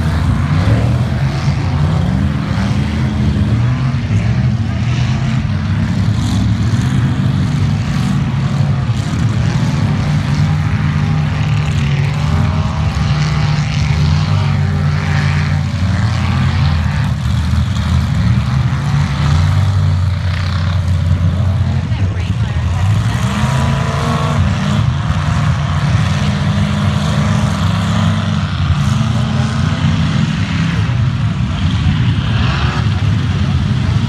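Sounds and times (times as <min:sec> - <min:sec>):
truck engine droning: 0:00.0 - 0:34.0.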